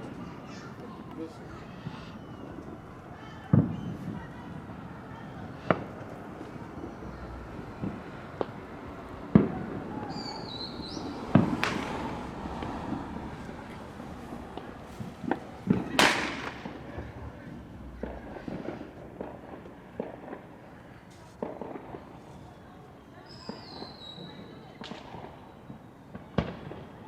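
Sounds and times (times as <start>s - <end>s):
fireworks and firecrackers bangs: 0.0s - 27.0s.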